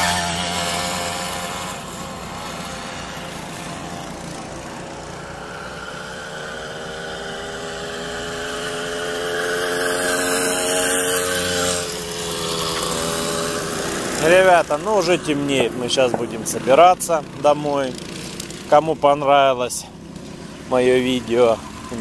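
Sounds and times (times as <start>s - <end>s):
small petrol engine running: 0.0s - 22.0s.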